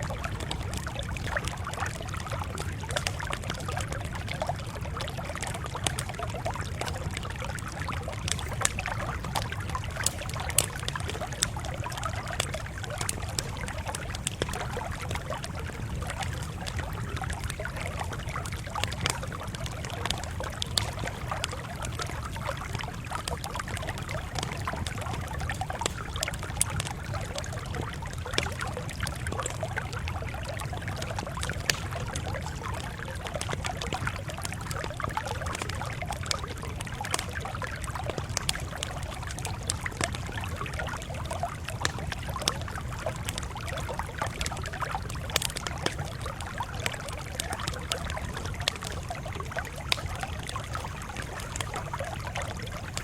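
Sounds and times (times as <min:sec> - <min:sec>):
campfire crackling: 0:00.0 - 0:53.0
sharp pops and snaps: 0:00.0 - 0:53.0.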